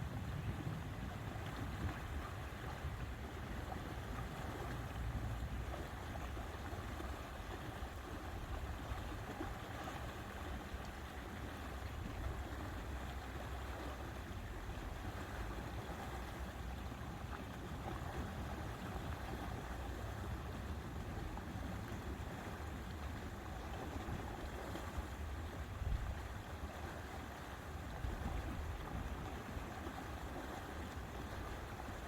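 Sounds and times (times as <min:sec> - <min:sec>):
wind with low rumble: 0:00.0 - 0:32.0.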